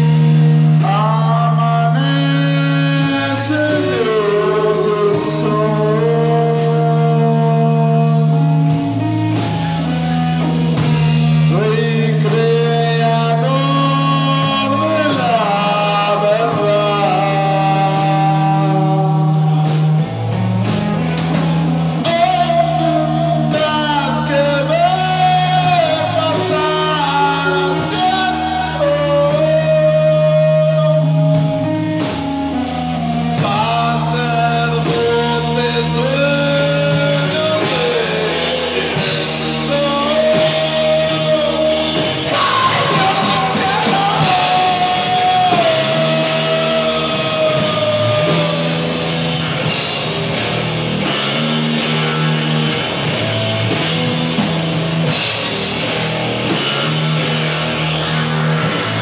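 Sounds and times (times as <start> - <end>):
drum kit: 0.0 - 59.0
electric bass line: 0.0 - 59.0
electric guitar: 0.0 - 59.0.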